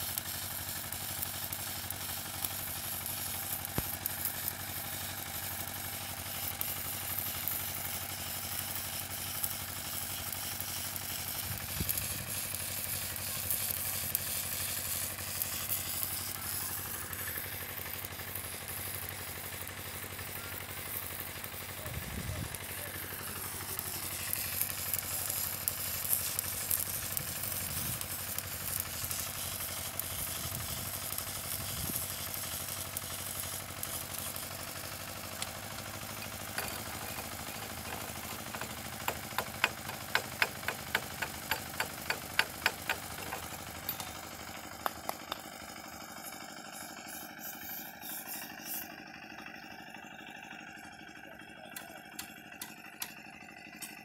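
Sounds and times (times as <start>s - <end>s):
welding arc crackling: 0.0s - 49.0s.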